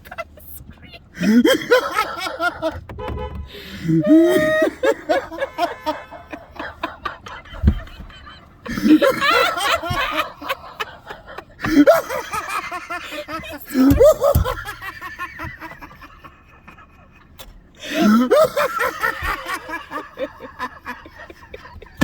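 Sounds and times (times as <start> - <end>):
man laughing hysterically: 0.0 - 22.0.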